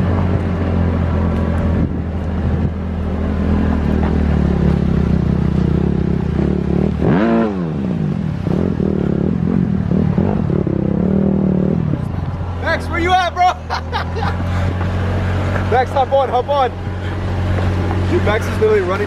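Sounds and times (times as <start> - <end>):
car engine revving under load: 0.0 - 12.7, 13.6 - 19.0.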